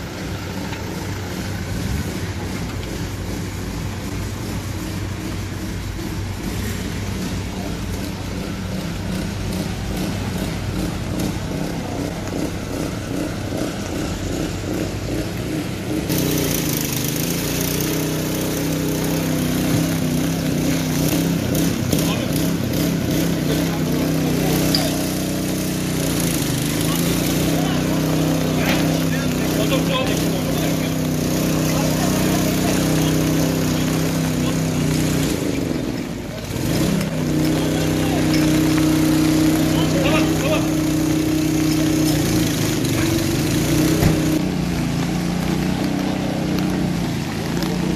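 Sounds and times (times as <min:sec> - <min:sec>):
engine running: 0:00.0 - 0:47.9
rain falling on water: 0:00.0 - 0:47.9.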